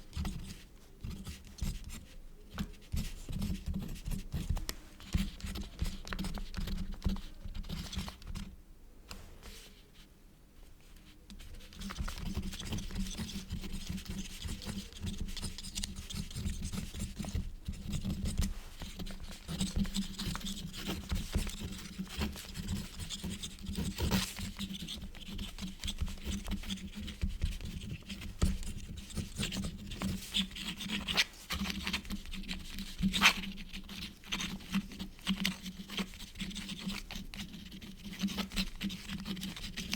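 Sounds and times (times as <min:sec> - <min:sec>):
quill nib scratching paper: 0:00.1 - 0:08.5, 0:11.4 - 0:39.9.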